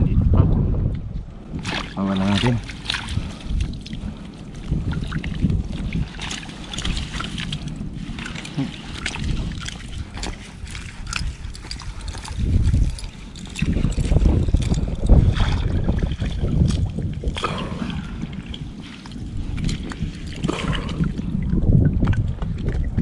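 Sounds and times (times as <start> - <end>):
wind rumbling on microphone: 0.0 - 23.0
water splashing and sloshing: 0.9 - 23.0.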